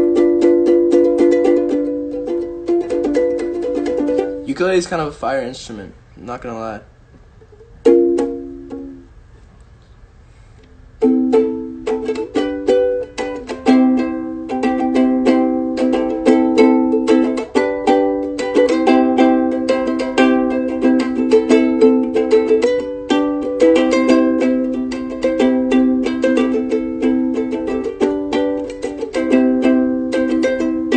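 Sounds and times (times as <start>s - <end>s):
ukulele strumming chords: 0.0s - 5.0s, 7.4s - 9.2s, 10.9s - 30.9s.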